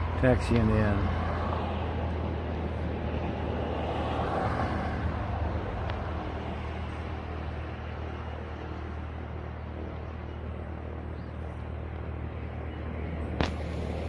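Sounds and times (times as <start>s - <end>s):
car engine drone: 0.0s - 14.0s.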